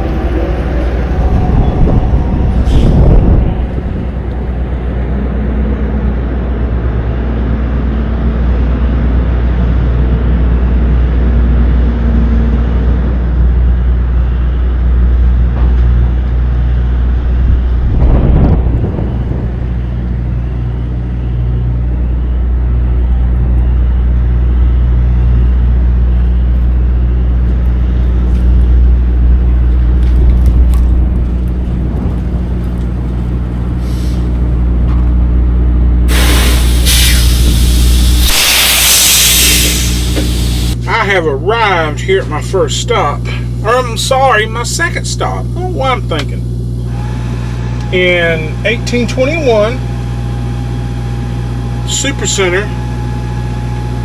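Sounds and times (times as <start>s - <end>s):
truck diesel engine rumble: 0.0s - 54.0s.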